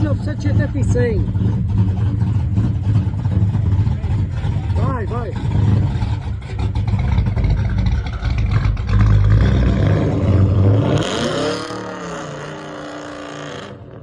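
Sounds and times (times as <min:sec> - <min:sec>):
loud engine deep rumble: 0:00.0 - 0:14.0.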